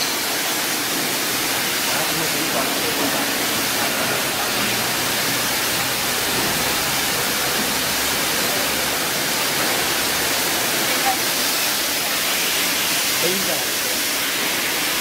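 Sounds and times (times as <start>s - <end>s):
water sprays rushing: 0.0s - 15.0s.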